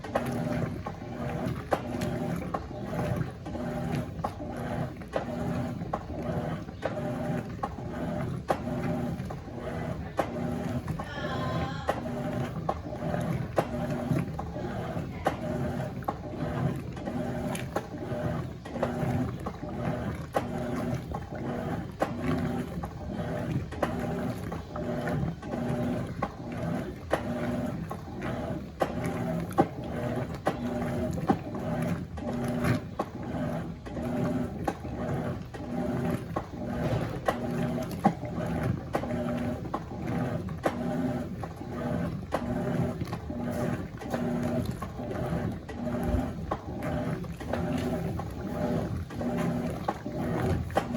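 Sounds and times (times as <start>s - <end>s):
washing machine agitating: 0.0s - 50.9s
water sloshing: 0.0s - 50.9s.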